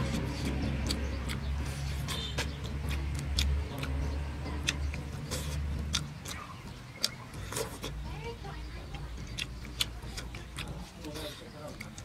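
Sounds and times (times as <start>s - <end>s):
mouth chewing smacks: 0.0s - 8.1s, 8.9s - 12.0s
low engine hum: 0.0s - 10.9s.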